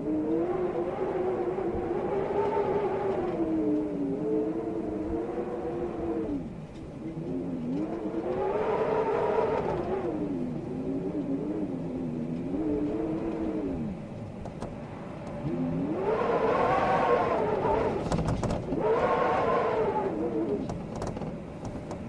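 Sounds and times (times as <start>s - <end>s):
storm wind howling: 0.0s - 22.0s.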